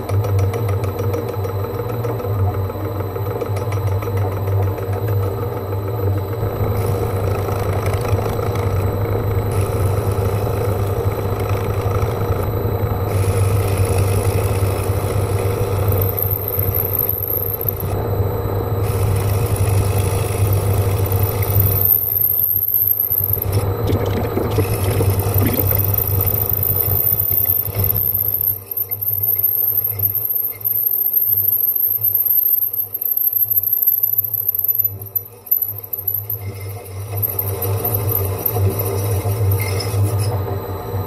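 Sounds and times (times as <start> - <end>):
faint high whine: 5.1 - 41.0
metal lathe humming: 6.0 - 41.0.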